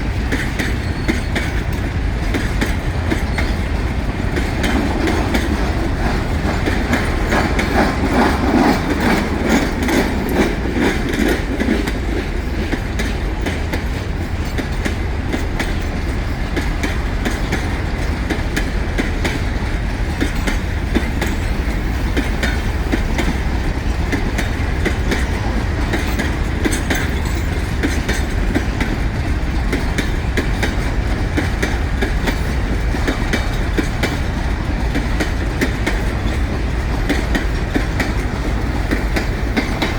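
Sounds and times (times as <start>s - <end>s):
low rumble of freight cars: 0.0s - 39.9s
train wheels clicking over rail joints: 0.0s - 39.9s.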